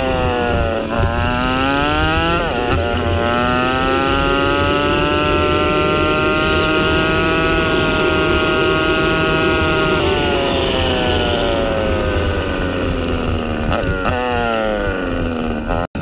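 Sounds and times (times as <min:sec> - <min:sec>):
motorbike engine: 0:00.0 - 0:16.0
wind on microphone: 0:00.0 - 0:16.0.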